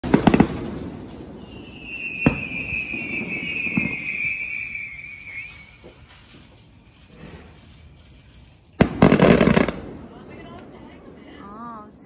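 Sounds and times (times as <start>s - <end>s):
whistling firework: 0.0s - 11.4s
firework bangs: 0.0s - 12.0s.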